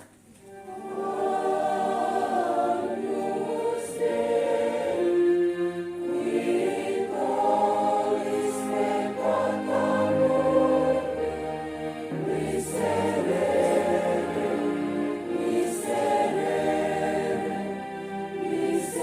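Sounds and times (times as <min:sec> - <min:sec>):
choir singing a hymn: 0:00.5 - 0:19.0.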